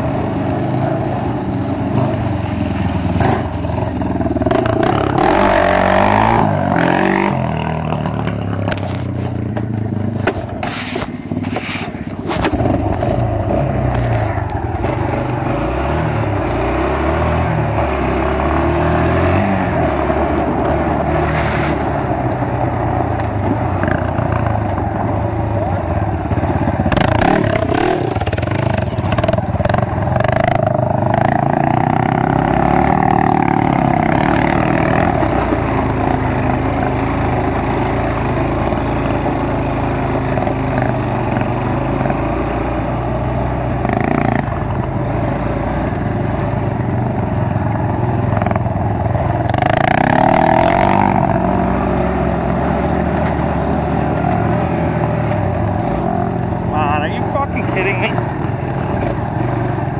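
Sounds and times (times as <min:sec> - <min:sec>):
quad engine revving: 0:00.0 - 0:09.1, 0:12.3 - 0:22.1, 0:25.4 - 0:59.9
dirt bike engine: 0:00.0 - 0:59.9.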